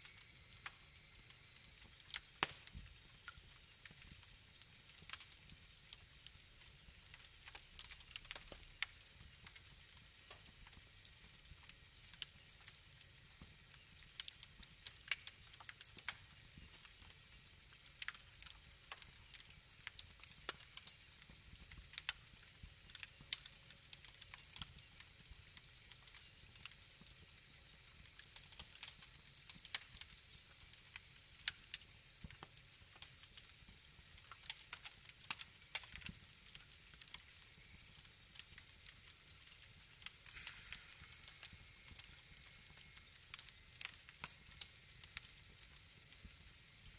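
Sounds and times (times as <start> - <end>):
faint low hiss: 0.0 - 46.9
wood fire crackling: 0.0 - 46.9.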